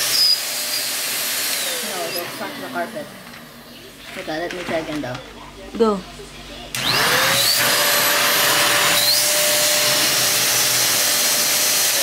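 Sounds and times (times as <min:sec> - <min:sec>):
stick vacuum cleaner running: 0:00.0 - 0:06.0, 0:06.6 - 0:12.0.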